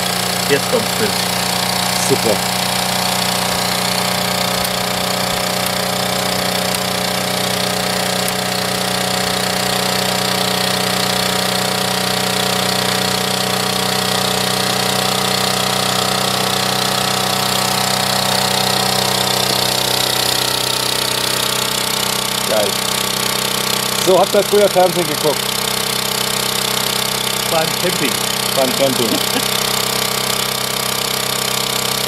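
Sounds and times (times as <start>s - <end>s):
generator engine running: 0.0s - 32.0s.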